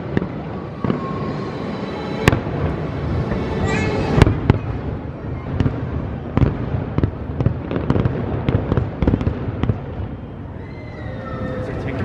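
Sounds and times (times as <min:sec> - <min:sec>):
fireworks bangs and crackles: 0:00.0 - 0:10.7.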